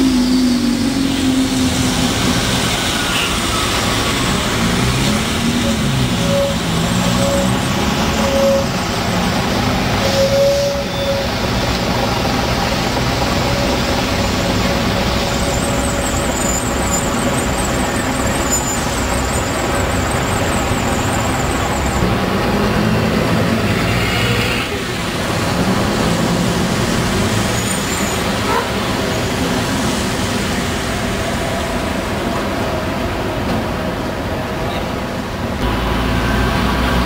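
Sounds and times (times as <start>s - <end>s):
bus engine revving pulling away: 0.0s - 31.2s, 35.6s - 37.0s
diesel buses in traffic: 0.0s - 37.0s
steady road hum: 0.0s - 37.0s.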